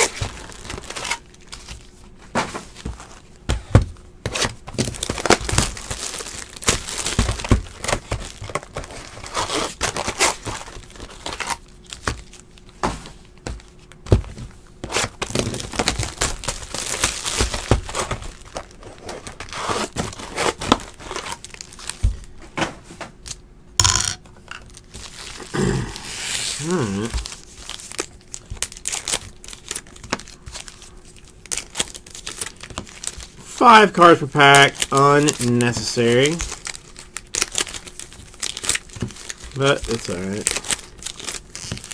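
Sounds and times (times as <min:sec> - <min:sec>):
plastic shrink-wrap crinkling and tearing: 0:00.0 - 0:02.0, 0:04.3 - 0:12.7, 0:14.8 - 0:22.3, 0:24.6 - 0:41.9.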